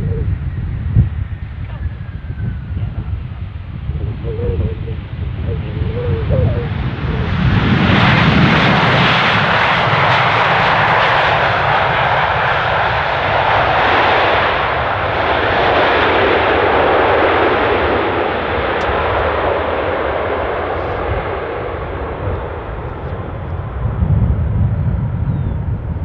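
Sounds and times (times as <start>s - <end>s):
jet airplane passing close: 0.0s - 26.0s.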